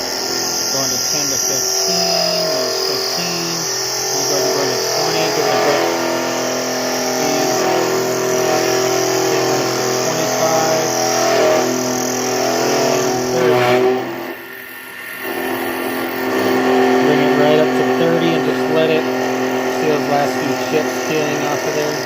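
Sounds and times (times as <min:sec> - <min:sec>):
lathe tool squealing chatter: 0:00.0 - 0:22.0.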